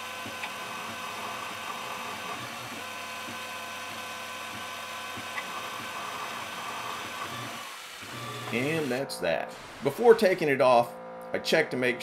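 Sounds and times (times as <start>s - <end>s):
mill spindle drilling steel: 0.0s - 10.1s.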